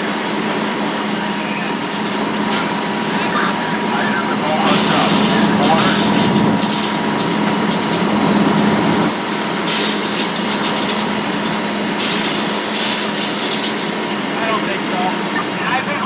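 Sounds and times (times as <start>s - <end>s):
fire engine pump running: 0.0s - 16.0s.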